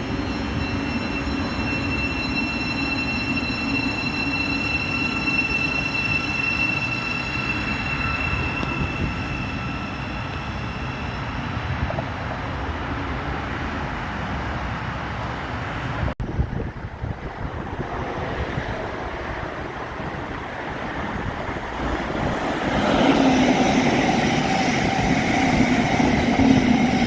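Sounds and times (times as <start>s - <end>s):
high train squeal: 0.0s - 14.3s, 17.6s - 27.0s
train rumbling past: 0.0s - 27.0s.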